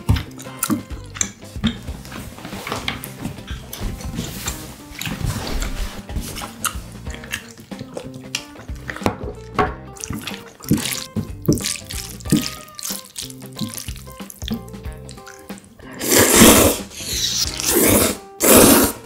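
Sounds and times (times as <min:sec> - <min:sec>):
sticky noodles squelching: 0:03.0 - 0:19.0.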